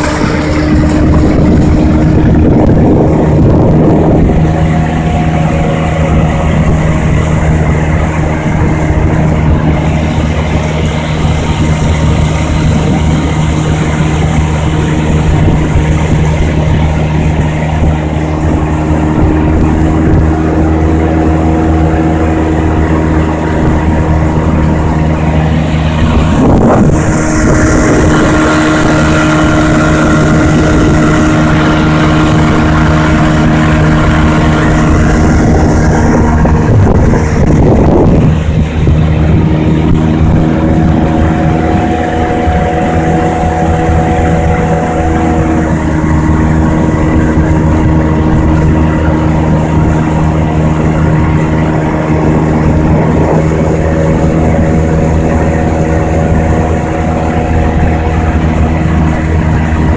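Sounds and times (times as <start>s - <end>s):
outboard motor running: 0.0s - 59.9s
water rushing: 0.0s - 59.9s
wind: 0.0s - 59.9s.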